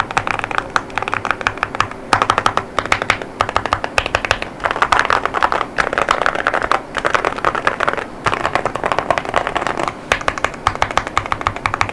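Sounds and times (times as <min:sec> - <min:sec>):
mechanical keyboard typing: 0:00.0 - 0:11.9.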